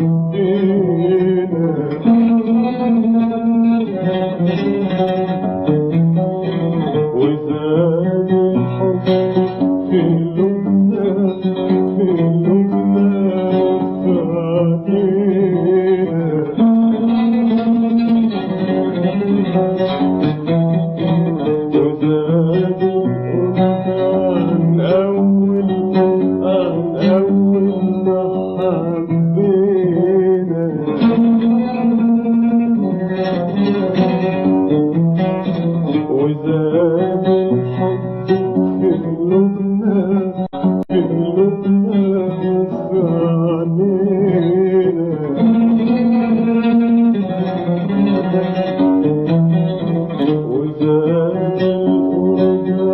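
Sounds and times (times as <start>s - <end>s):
oud playing plucked melody: 0.0s - 52.9s.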